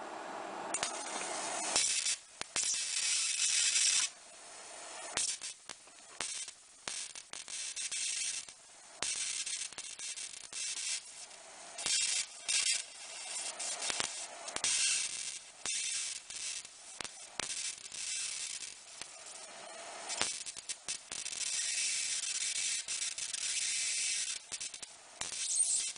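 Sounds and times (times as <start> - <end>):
sharp electric clicks: 0.7 - 4.2, 5.0 - 25.9
electric arc hissing and crackling: 0.7 - 25.9.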